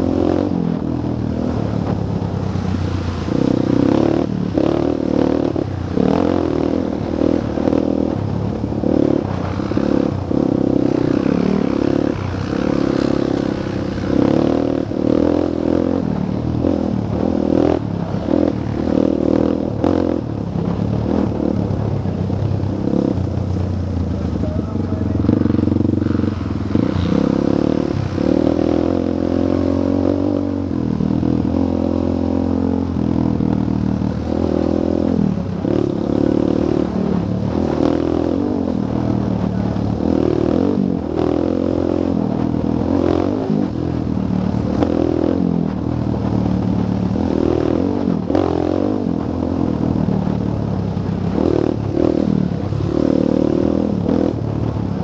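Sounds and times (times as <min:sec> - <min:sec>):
atv engine revving: 0:00.0 - 0:55.0
vehicle rattling over bumps: 0:00.0 - 0:55.0.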